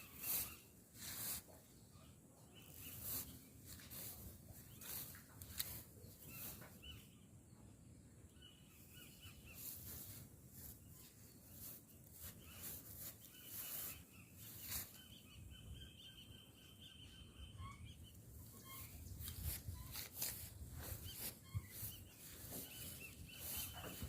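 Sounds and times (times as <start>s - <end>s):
faint birdsong chirps: 0.0s - 24.0s.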